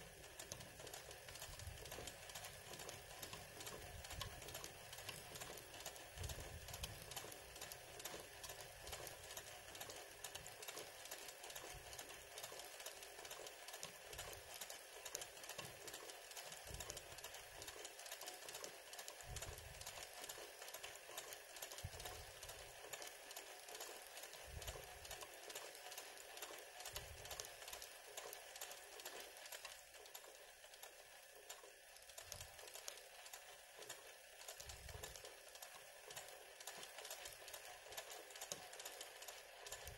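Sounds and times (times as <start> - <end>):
sewing machine running fast: 0.0 - 39.9.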